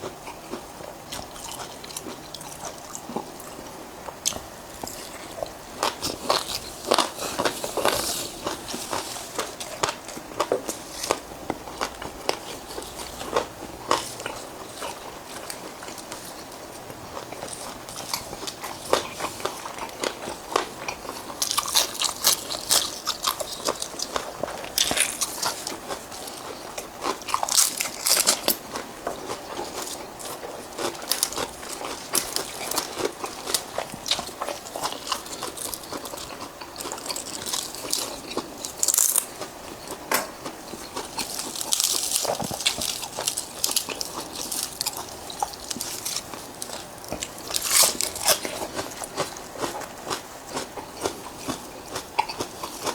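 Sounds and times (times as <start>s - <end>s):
person crunching and chewing: 0.0s - 52.9s.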